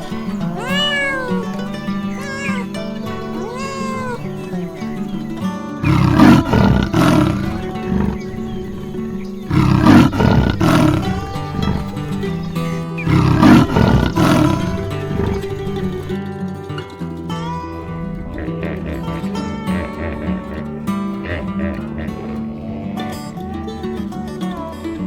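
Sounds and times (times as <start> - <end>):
tiger roaring: 0.0 - 16.1, 18.0 - 23.4.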